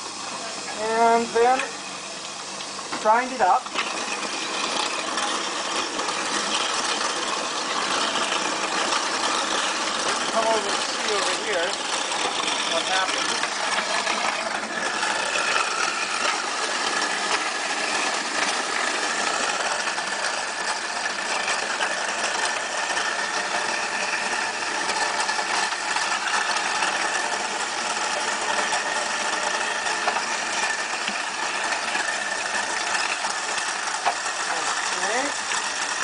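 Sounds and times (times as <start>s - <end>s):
tap water running: 0.0s - 36.0s
waste disposer grinding: 0.0s - 36.0s.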